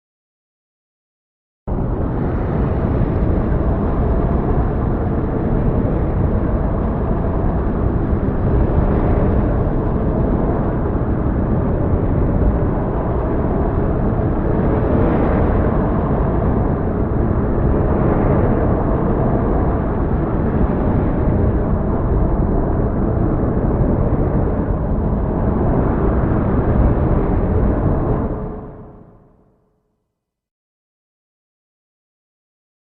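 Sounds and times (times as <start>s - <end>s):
thunder rumble: 1.7s - 29.0s.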